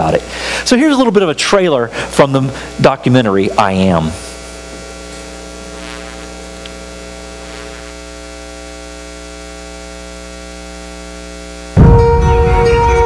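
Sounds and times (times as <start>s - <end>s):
electrical mains hum: 0.0s - 11.9s.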